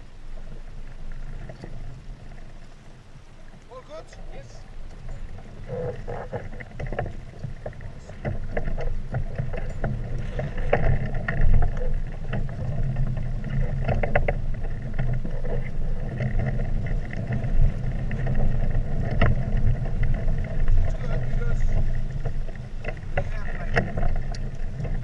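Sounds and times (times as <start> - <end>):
steady low rumble: 0.0 - 25.0
water splashes: 0.0 - 25.0
water slapping against hulls: 3.6 - 25.0.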